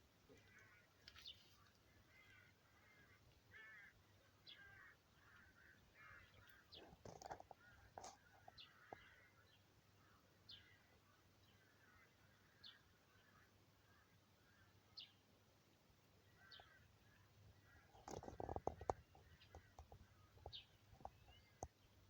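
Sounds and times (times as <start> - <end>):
raspy bird calls and chirps: 0.4 - 15.2, 16.3 - 22.0.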